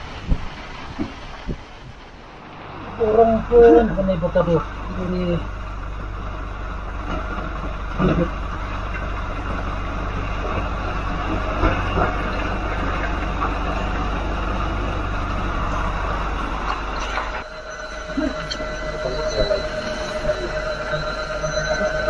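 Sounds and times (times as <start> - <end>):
boat engine droning: 0.0 - 22.0
constant hiss: 0.0 - 22.0.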